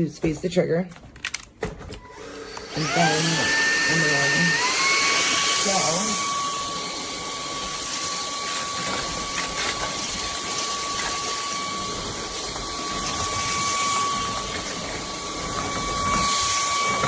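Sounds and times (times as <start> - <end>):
higher motor whine: 2.0 - 17.0
stick vacuum cleaner running: 2.0 - 17.0.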